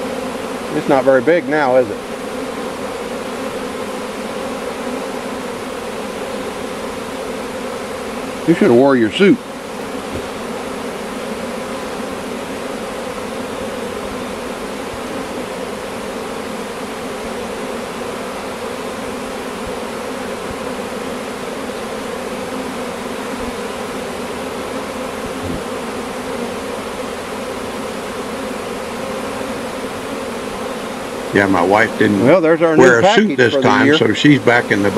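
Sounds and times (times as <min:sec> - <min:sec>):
honeybee swarm buzzing: 0:00.0 - 0:34.9.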